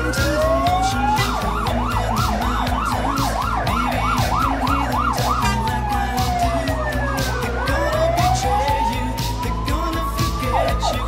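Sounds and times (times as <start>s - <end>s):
fire truck siren wailing and yelping: 0.0s - 11.0s
music with steady beat: 0.0s - 11.0s.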